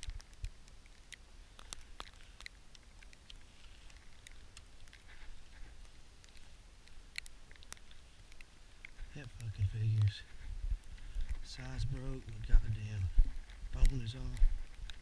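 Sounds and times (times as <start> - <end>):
clothing and gear rustling: 1.5 - 9.2, 9.8 - 15.0.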